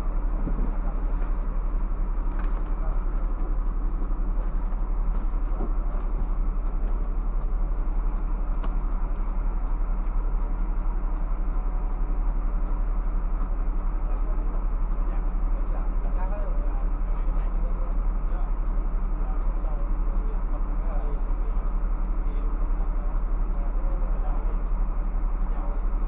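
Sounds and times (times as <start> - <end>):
bus engine drone: 0.0 - 26.0
faint clicks and rattles: 0.1 - 26.0.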